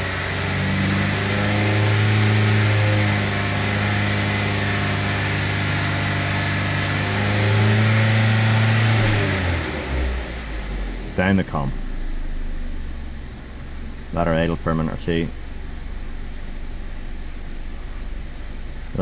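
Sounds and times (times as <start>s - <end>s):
petrol engine revving steadily: 0.0s - 19.0s.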